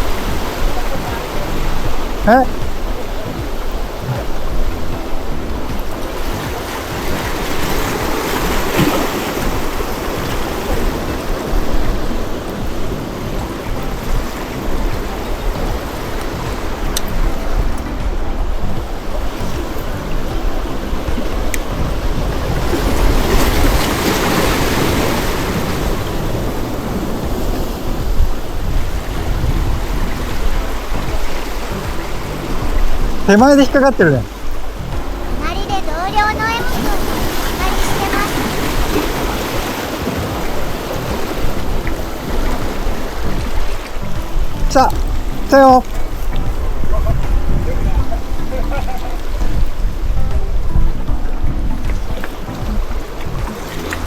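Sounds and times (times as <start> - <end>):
sea waves washing on shore: 0.0 - 54.0
wind rumbling on microphone: 0.0 - 54.0.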